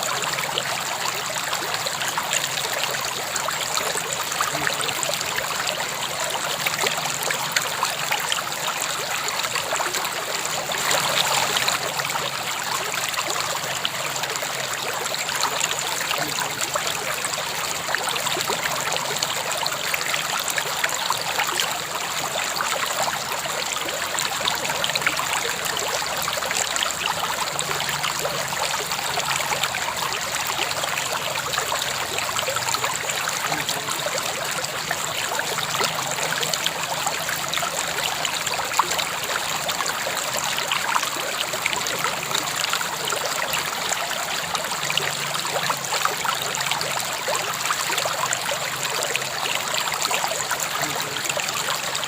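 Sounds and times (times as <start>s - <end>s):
stream flowing over rocks: 0.0s - 52.0s.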